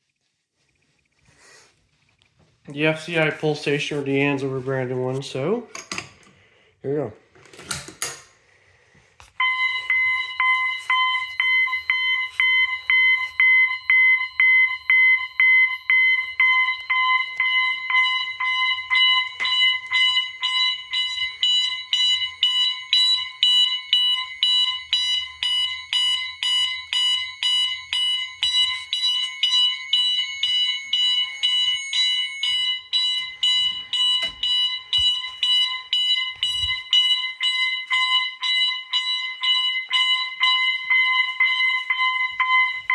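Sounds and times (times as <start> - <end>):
fire alarm horns pulsing: 2.7 - 5.6, 9.2 - 42.9.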